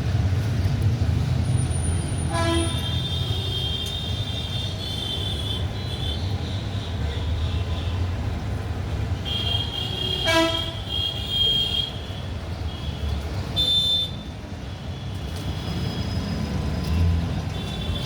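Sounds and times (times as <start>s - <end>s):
low traffic rumble: 0.0s - 18.0s.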